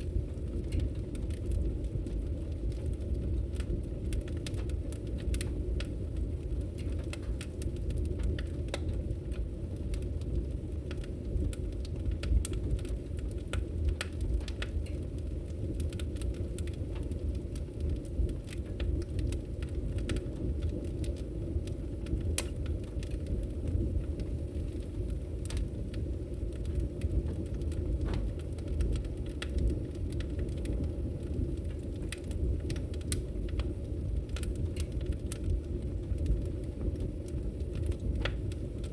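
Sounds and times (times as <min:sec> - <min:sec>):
low rumble of fire flames: 0:00.0 - 0:38.9
wood fire crackling and popping: 0:00.0 - 0:38.9.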